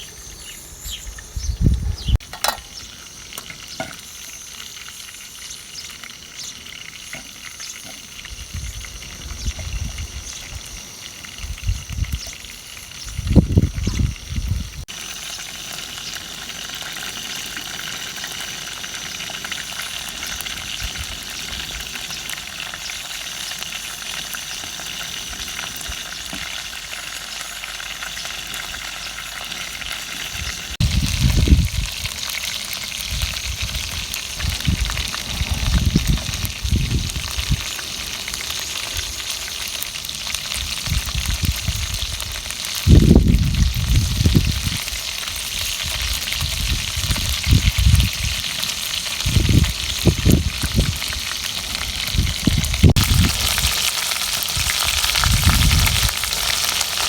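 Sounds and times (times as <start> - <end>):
food sizzling in a pan: 2.0 - 57.0.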